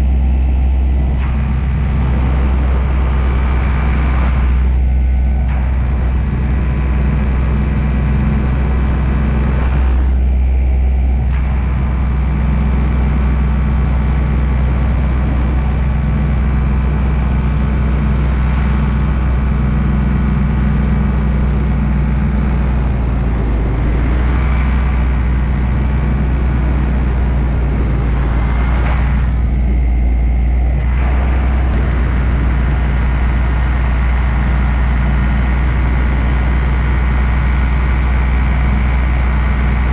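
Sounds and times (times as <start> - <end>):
paramotor engine drone: 0.0 - 39.9.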